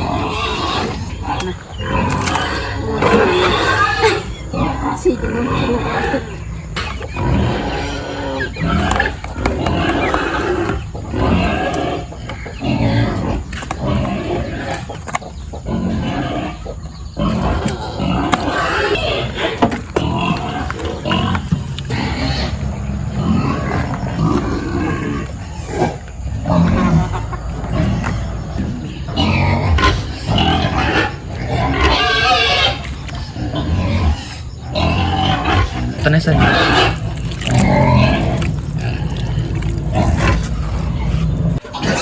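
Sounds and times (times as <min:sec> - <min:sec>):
pigs squealing and grunting: 0:00.0 - 0:42.0.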